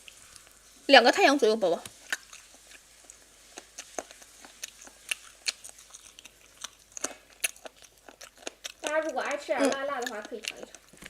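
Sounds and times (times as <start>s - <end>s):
crunchy chewing of chicken feet: 1.8s - 11.0s.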